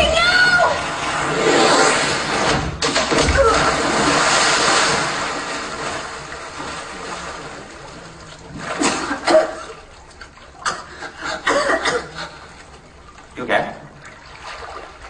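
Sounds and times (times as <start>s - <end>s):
water splashing in a pool: 0.0s - 15.0s.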